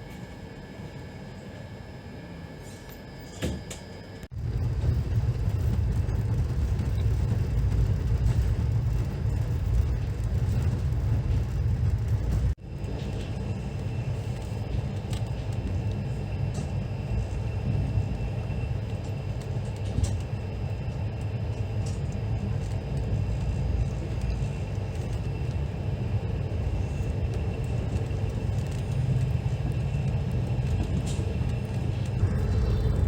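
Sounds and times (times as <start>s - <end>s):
train rumbling: 4.2s - 33.0s.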